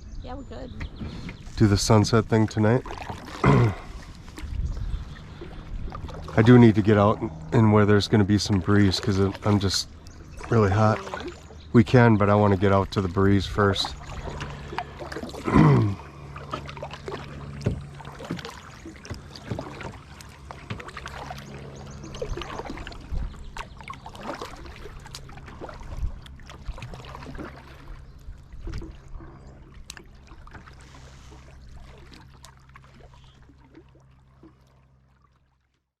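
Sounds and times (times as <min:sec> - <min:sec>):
steady low hum: 0:00.0 - 0:34.3
paddle splashing in water: 0:00.7 - 0:35.8.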